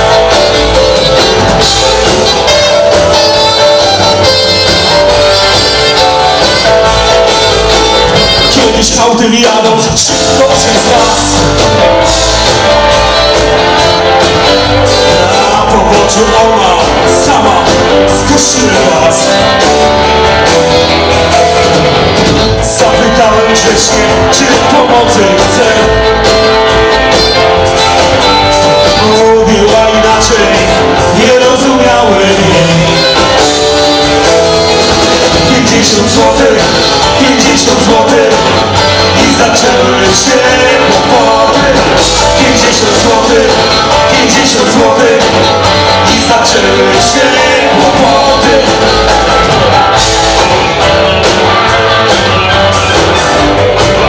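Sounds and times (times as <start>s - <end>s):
lead guitar line: 0.0s - 54.0s
live blues band playing: 0.0s - 54.0s.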